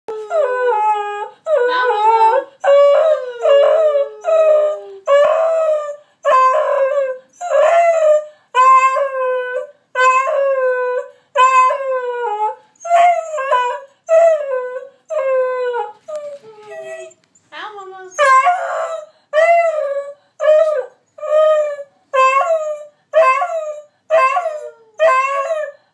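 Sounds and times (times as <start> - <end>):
dogs howling and yelping: 0.1 - 17.3, 18.1 - 25.8.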